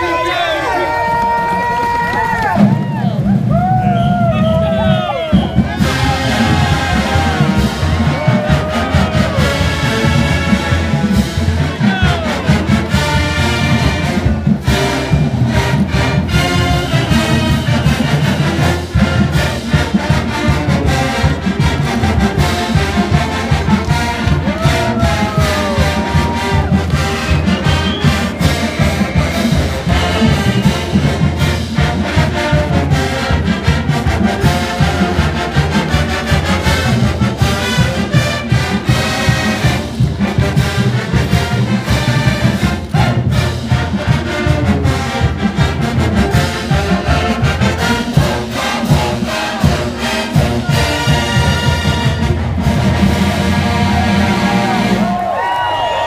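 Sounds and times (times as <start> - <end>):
marching band playing: 0.0 - 56.0.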